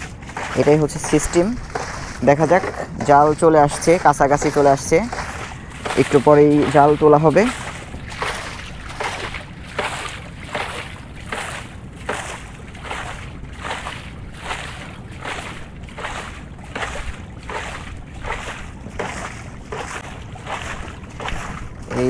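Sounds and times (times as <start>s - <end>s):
water splashing against boat: 0.0s - 22.0s.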